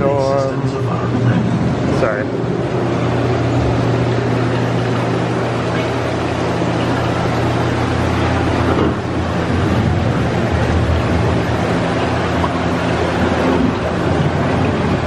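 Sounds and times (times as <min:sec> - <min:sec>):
low even hum: 0:00.0 - 0:15.0
rushing rain and water: 0:02.5 - 0:15.0.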